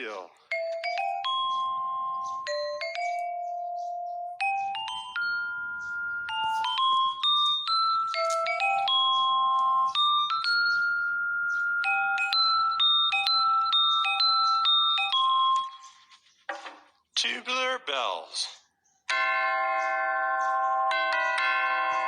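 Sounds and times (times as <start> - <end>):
glockenspiel playing a tune: 0.0 - 16.1, 19.1 - 22.0.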